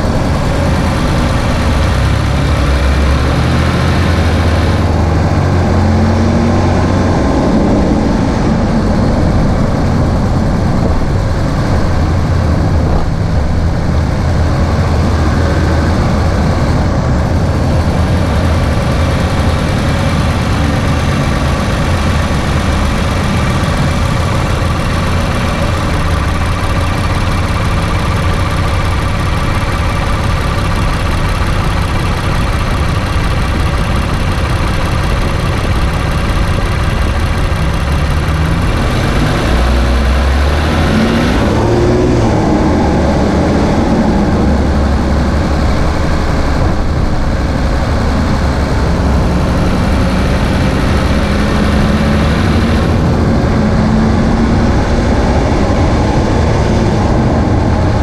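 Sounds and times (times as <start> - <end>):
car engine drone: 0.0 - 58.0.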